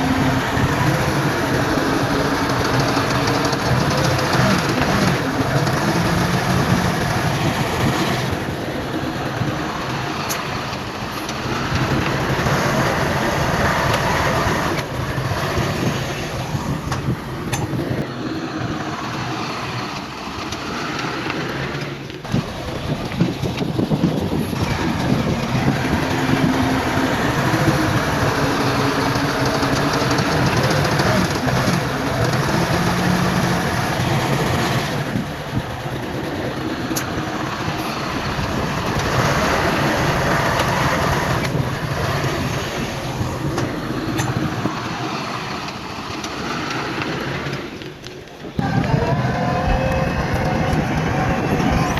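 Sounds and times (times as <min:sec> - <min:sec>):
heavy machinery engine: 0:00.0 - 0:51.9.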